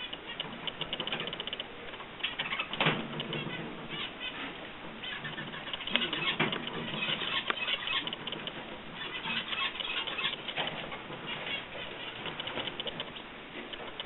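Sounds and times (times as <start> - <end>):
birds clicking and chirping: 0.0 - 14.0.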